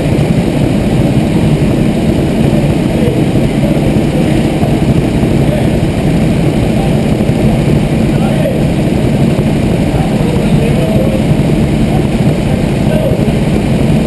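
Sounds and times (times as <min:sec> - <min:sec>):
go-kart engines idling: 0:00.0 - 0:14.0.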